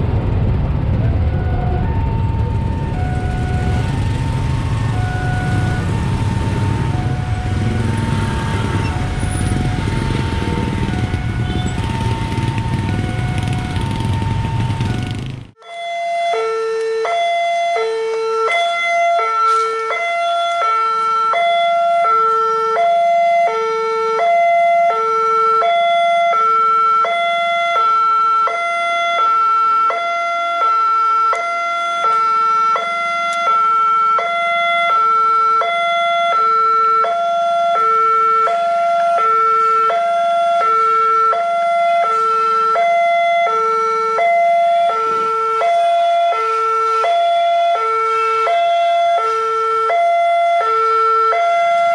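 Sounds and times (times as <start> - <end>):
level crossing warning alarm: 1.4 - 51.9.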